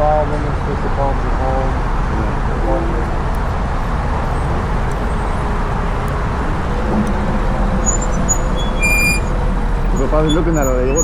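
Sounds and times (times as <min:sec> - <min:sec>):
motorcycle road noise: 0:00.0 - 0:11.0.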